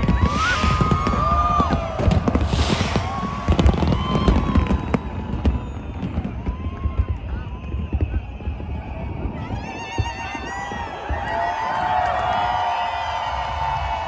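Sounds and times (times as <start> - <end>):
fireworks hissing and whistling: 0.0 - 11.3
fireworks bangs and crackles: 0.0 - 14.0.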